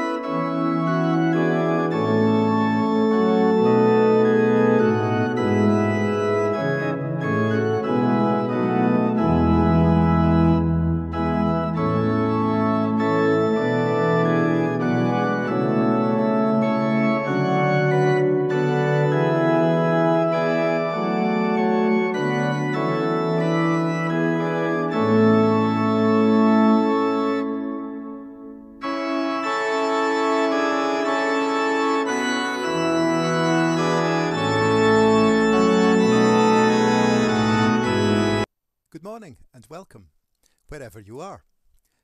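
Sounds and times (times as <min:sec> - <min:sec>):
deep organ pedal note: 0:00.0 - 0:38.5
organ playing held chords: 0:00.0 - 0:38.5.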